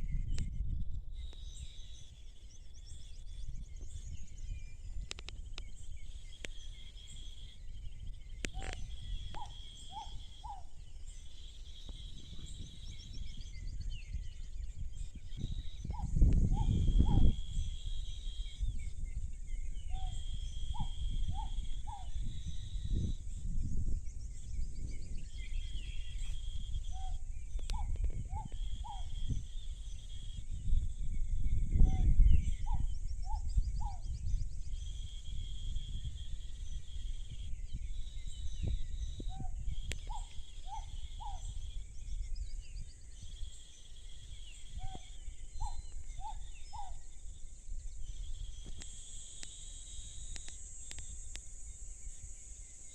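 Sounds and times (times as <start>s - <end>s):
insect chirring: 0.3s - 52.9s.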